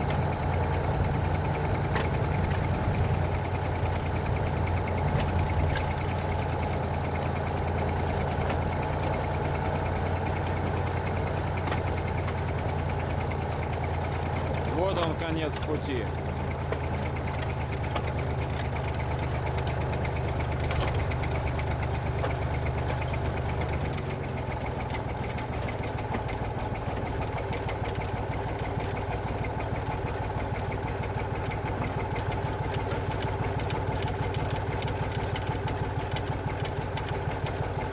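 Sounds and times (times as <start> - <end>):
diesel locomotive engine humming: 0.0 - 37.9.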